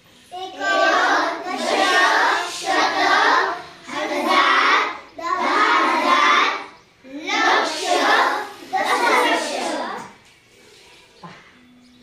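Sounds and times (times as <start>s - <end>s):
children chanting in unison: 0.3s - 10.2s.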